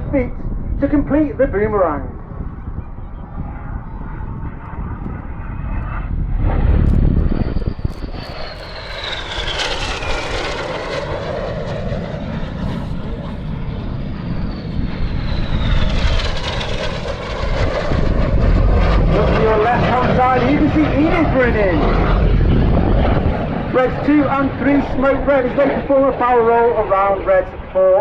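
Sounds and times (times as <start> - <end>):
jets roaring past: 0.0 - 28.0.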